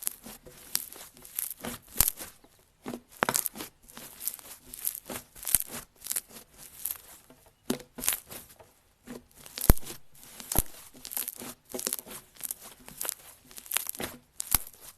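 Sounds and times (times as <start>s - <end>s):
slime squishing with sticky pops: 0.0s - 8.4s, 9.4s - 14.9s.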